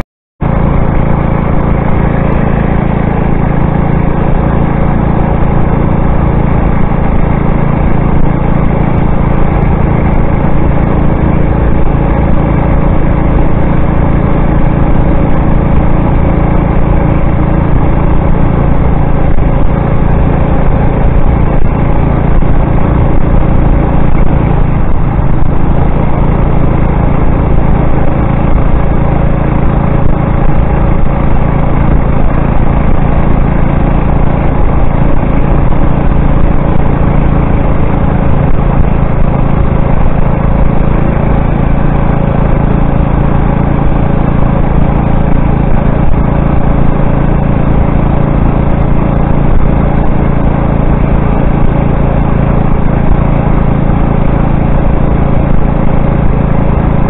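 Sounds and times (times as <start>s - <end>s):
small gas engine running: 0.4s - 57.0s.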